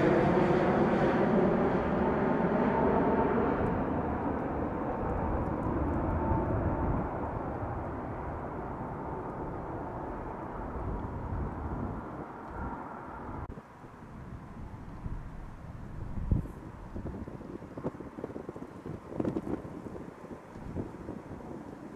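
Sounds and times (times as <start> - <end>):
jet airliner engine rumble: 0.0 - 21.9.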